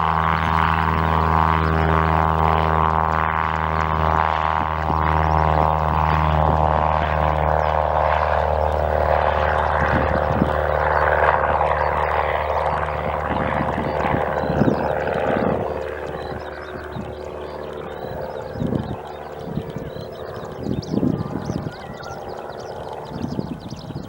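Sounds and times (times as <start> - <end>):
airplane piston engine and propeller: 0.0 - 24.0.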